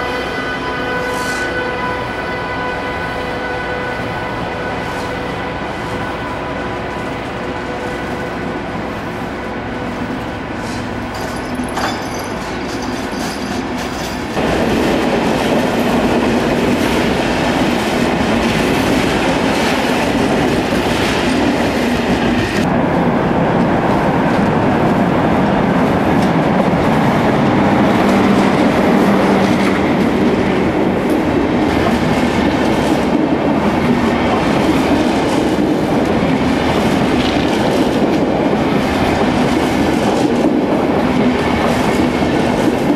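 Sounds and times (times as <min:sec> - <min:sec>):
train rumbling on tracks: 0:00.0 - 0:42.9.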